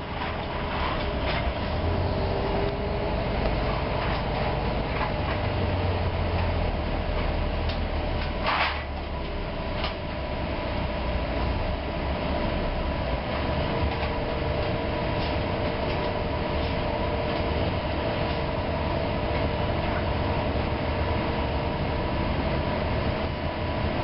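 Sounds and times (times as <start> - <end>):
bus engine and road rumble: 0.0 - 24.0
constant whine: 0.0 - 24.0.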